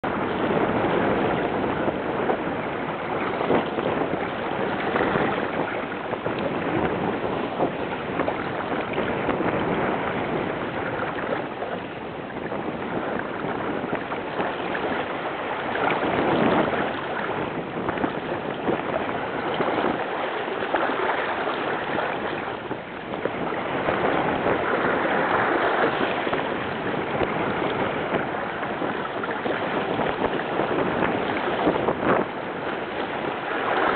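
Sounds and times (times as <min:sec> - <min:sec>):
rushing water: 0:00.0 - 0:33.9
wind: 0:00.0 - 0:33.9
wind buffeting microphone: 0:00.0 - 0:33.9.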